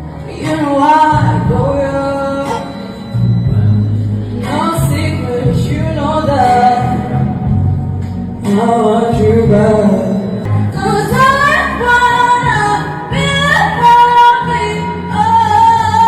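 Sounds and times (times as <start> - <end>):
backing track music: 0.0 - 16.0
person singing pop melody: 0.0 - 16.0.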